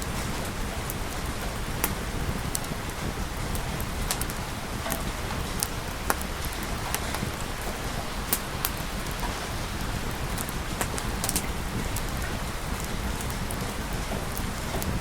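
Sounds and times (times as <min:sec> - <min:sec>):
rain hissing: 0:00.0 - 0:15.0
wood fire crackling and popping: 0:00.0 - 0:15.0.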